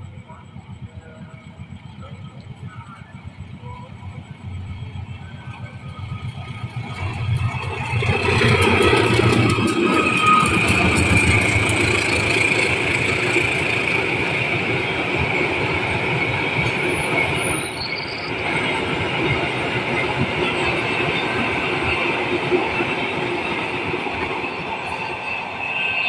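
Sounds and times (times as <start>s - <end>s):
diesel locomotive rumble: 0.0s - 25.7s
train wheels clattering on rails: 3.6s - 26.0s.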